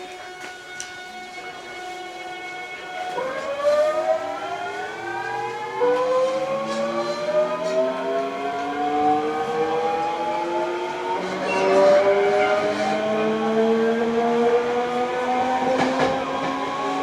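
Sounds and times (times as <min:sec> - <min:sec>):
train motors whining: 0:03.4 - 0:17.0.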